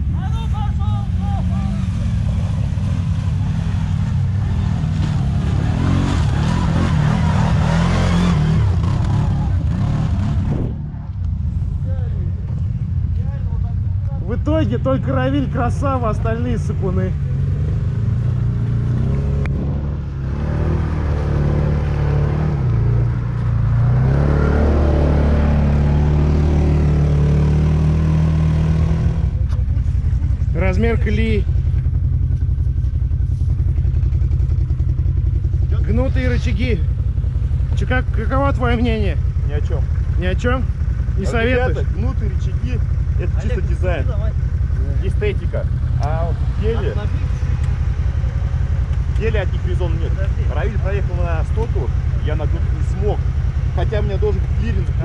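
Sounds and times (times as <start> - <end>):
quad bike engine revving: 1.1 - 11.1, 17.2 - 32.2, 33.7 - 55.0.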